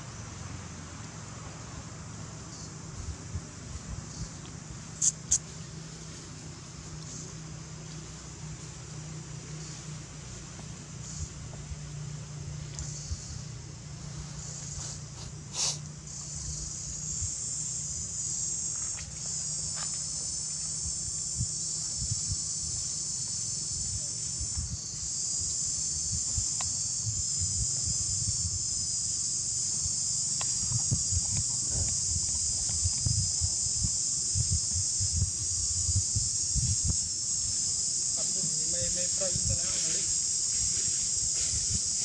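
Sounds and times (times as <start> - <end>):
insects buzzing: 0.0 - 42.0.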